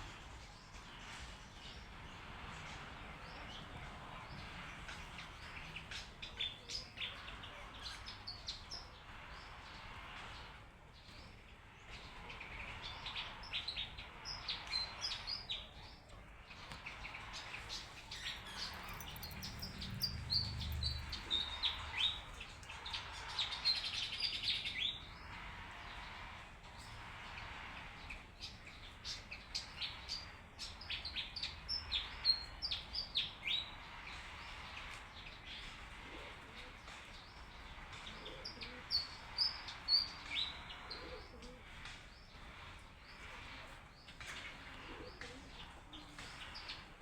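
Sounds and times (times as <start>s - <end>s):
many birds chirping: 0.0s - 47.0s.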